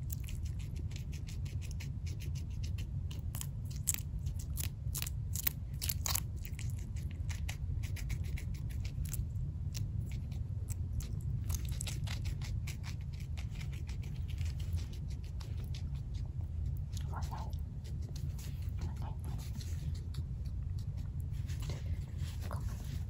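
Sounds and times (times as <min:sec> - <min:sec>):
guinea pig chewing crunchy pepper: 0:00.0 - 0:23.0.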